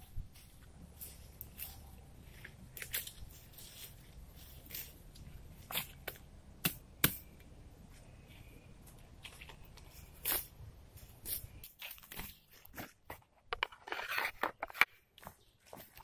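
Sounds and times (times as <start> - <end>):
dry leaves and twigs crunching: 0.0 - 16.0.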